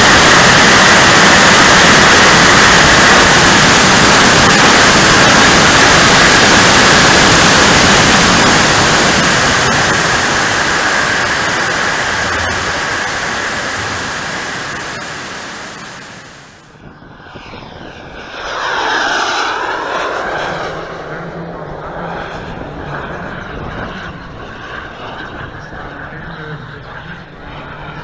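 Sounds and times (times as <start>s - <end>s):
jet flying past: 0.0s - 28.0s
jet turbine roaring: 0.0s - 28.0s.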